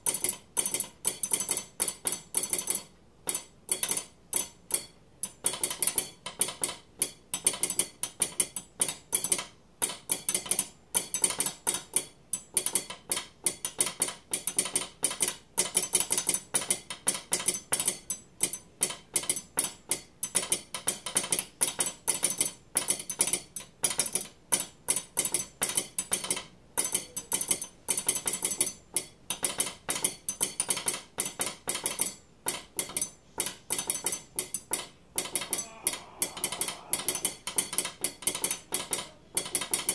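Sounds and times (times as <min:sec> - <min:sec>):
metal spoon tapping a knife: 0:00.0 - 0:39.9.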